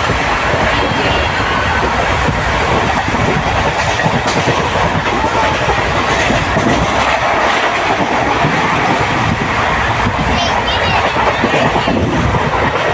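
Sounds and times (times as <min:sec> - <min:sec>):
train rumble and wheel clatter: 0:00.0 - 0:12.9.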